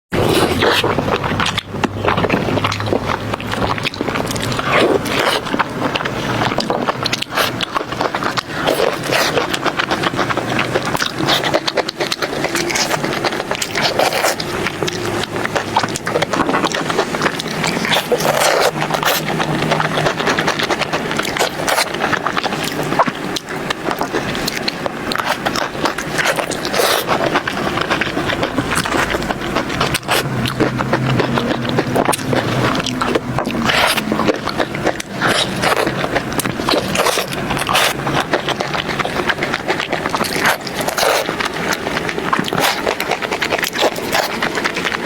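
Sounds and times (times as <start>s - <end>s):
eating and chewing sounds: 0.1s - 45.0s.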